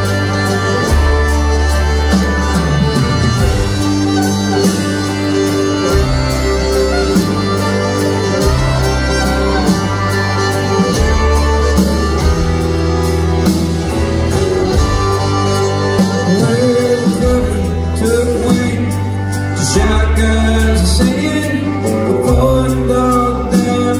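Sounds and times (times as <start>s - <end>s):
bass guitar: 0.0s - 23.9s
fiddle melody: 0.0s - 23.9s
guitars: 0.0s - 23.9s
steady drum beat: 0.0s - 23.9s.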